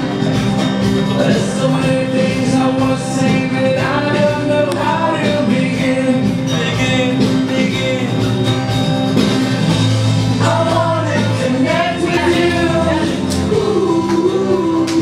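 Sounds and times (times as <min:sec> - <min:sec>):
acoustic guitars strummed: 0:00.0 - 0:15.0
men singing: 0:01.0 - 0:08.6, 0:10.2 - 0:15.0.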